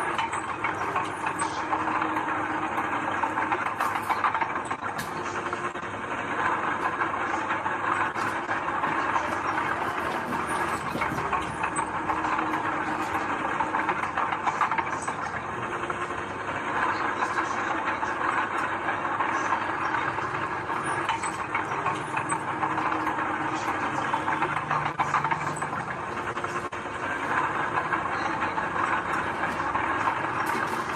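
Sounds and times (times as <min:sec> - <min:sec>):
heavy diesel machinery clattering: 0:00.0 - 0:30.9.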